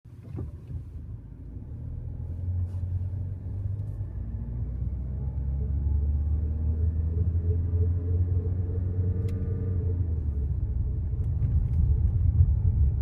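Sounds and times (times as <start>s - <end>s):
car engine droning rumble: 0.1s - 13.0s.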